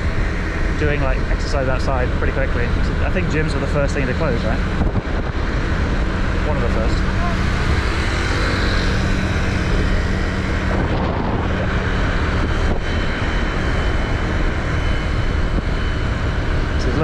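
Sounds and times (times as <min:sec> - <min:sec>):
low engine drone: 0:00.0 - 0:17.0
motorbike engine and tyres hum: 0:00.0 - 0:17.0
wind buffeting microphone: 0:00.0 - 0:17.0.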